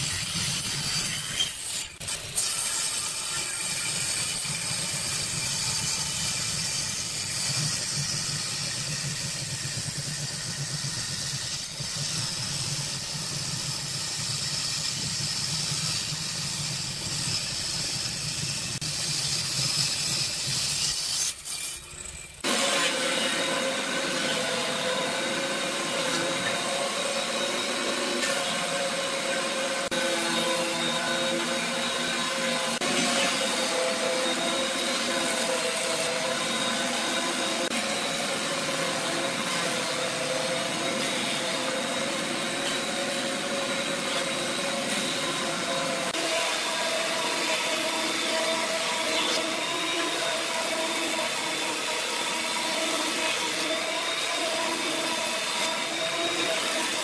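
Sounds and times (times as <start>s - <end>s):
thickness planer whining: 0.0s - 57.0s.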